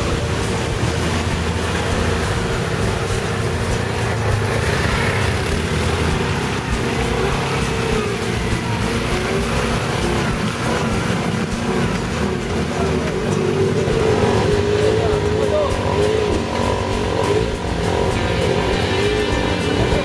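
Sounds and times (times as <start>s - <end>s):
quad bike engines at low revs: 0.0s - 20.0s.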